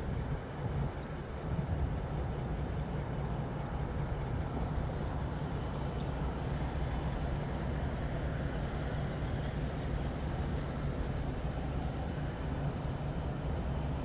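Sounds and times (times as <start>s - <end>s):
engine running low rumble: 0.0s - 14.0s.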